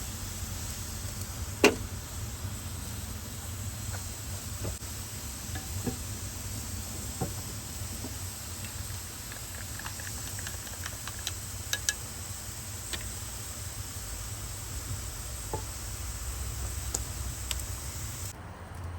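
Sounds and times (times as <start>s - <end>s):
wood fire crackling: 0.0s - 18.4s
low rumble and hiss: 0.0s - 18.9s.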